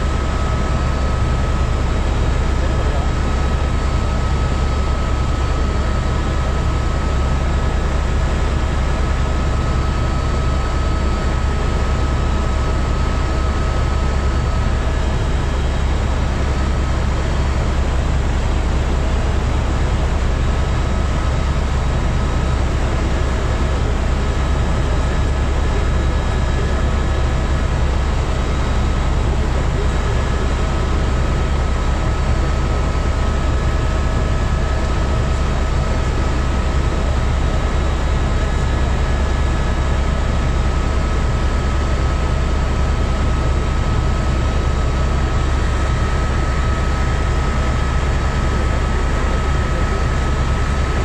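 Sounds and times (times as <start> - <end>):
helicopter rotor and engine drone: 0.0 - 51.0.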